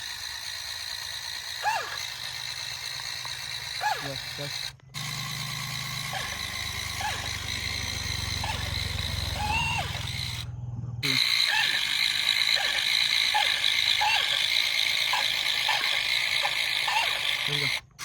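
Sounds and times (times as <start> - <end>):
small electric motor whirring: 0.0 - 18.0.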